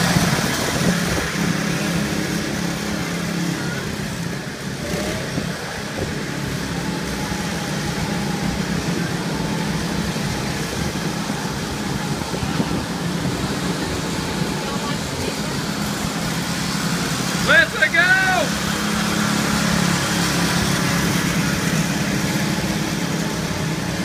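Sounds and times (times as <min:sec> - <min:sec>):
go-kart engines droning: 0:00.0 - 0:24.0.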